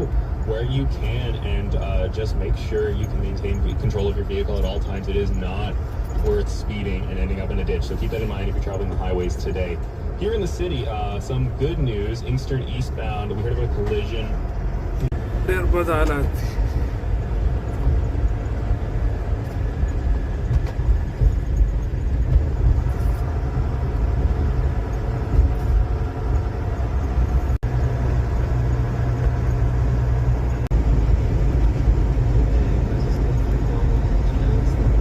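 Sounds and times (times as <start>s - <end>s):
car driving on highway: 0.0s - 35.0s.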